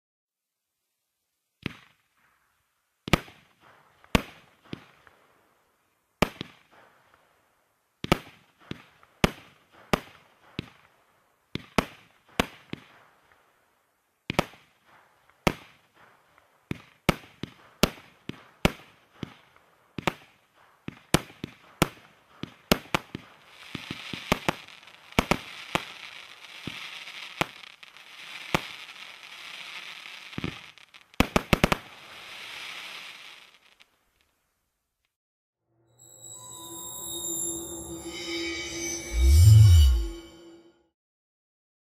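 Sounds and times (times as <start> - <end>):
crackling fireworks stars: 1.7 - 34.4, 36.0 - 40.5.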